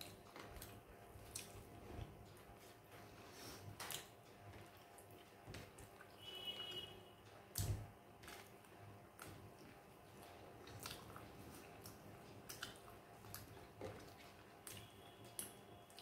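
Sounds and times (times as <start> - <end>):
soft chewing: 0.0 - 6.2, 8.2 - 16.0.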